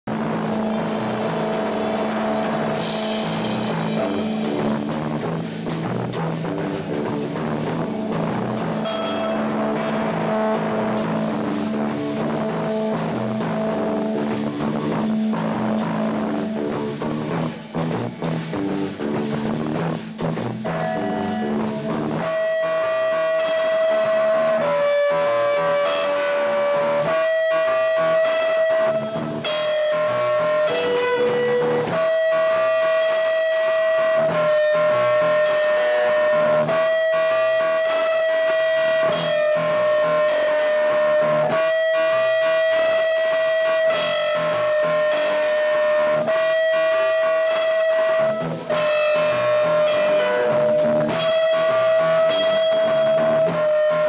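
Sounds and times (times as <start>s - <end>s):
band playing electric guitars: 0.0s - 54.0s.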